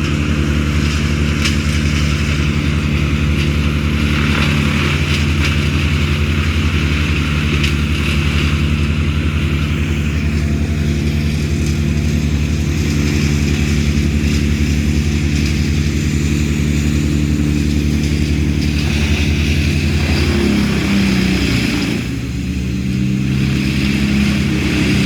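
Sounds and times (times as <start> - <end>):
large engine running: 0.0 - 25.0.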